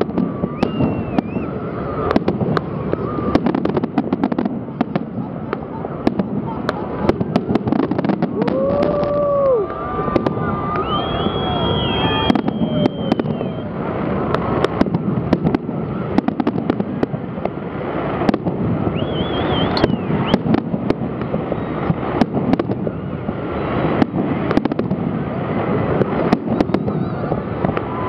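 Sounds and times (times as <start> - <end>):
crackling firework stars: 0.0 - 28.0
firework shells bursting: 2.1 - 28.0.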